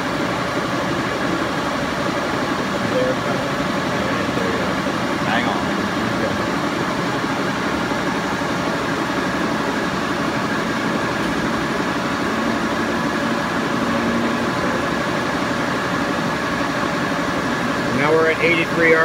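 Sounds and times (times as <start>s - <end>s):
faint machine whine: 0.0s - 19.0s
lathe drive hum: 0.0s - 19.0s.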